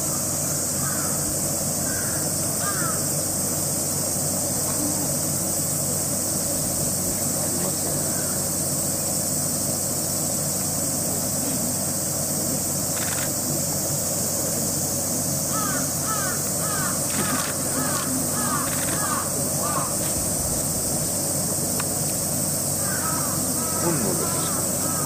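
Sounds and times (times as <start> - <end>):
cicada chorus drone: 0.0 - 25.0.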